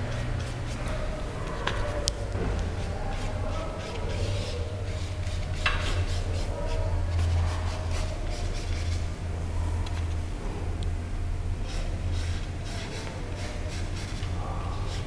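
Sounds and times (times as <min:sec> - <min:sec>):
paintbrush strokes scratching: 0:00.0 - 0:10.2, 0:11.7 - 0:15.0
steady low hum: 0:00.0 - 0:15.0.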